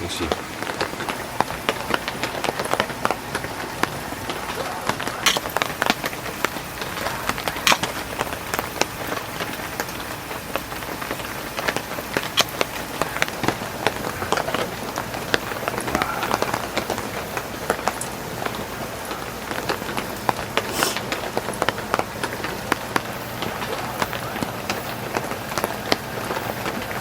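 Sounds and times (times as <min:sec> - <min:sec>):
heavy rain on a tent: 0:00.0 - 0:27.0
raindrop hits: 0:00.0 - 0:27.0.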